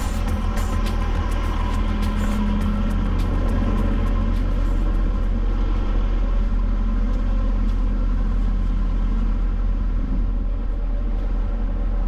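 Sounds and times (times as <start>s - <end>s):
diesel engine deep drone: 0.0s - 12.0s.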